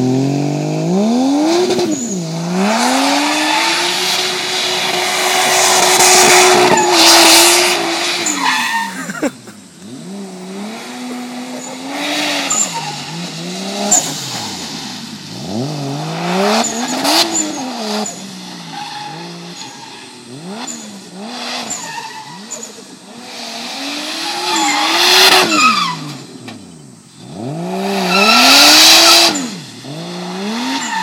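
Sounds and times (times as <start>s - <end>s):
car engine revving: 0.0s - 31.0s
tyres skidding: 0.0s - 31.0s.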